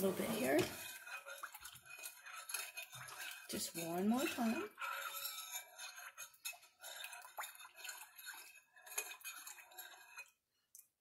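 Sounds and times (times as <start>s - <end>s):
utensil clinking in glass bowl: 0.0s - 10.4s.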